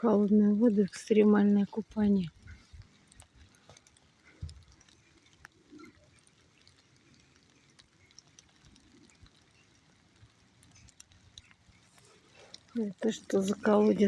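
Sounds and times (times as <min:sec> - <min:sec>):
drip ticks: 0:00.0 - 0:14.0
light rain hiss: 0:00.0 - 0:14.0.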